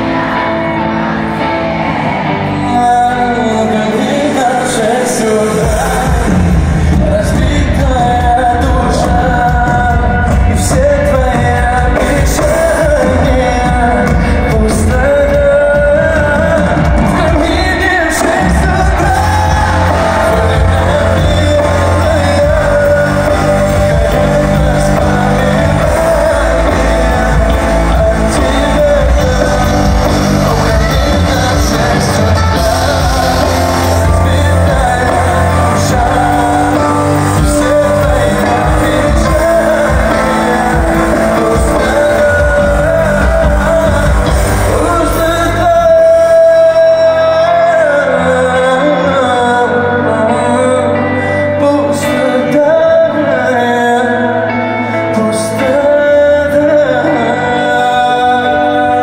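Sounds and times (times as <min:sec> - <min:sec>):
voices singing: 0:00.0 - 0:51.1
pop song over sound system: 0:00.0 - 0:59.0.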